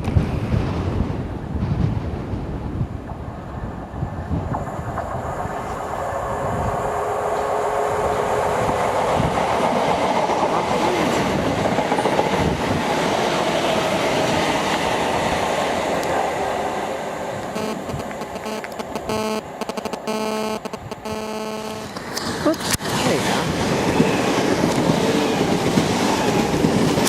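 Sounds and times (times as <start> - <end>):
wind buffeting microphone: 0.0 - 18.2, 21.9 - 27.0
train rolling: 0.1 - 19.6, 21.9 - 27.0.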